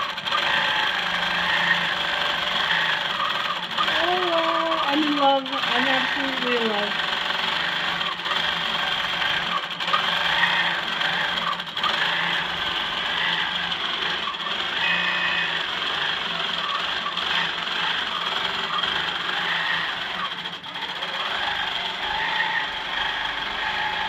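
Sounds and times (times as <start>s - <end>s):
quilting machine stitching: 0.0s - 24.0s.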